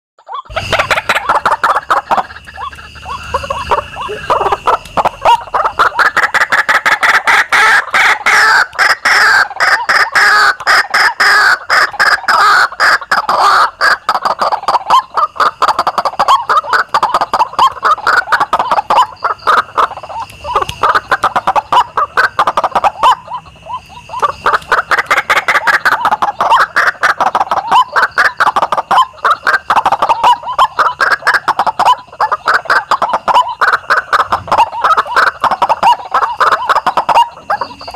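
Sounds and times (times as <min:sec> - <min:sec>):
waterhen calls: 0:00.3 - 0:37.9.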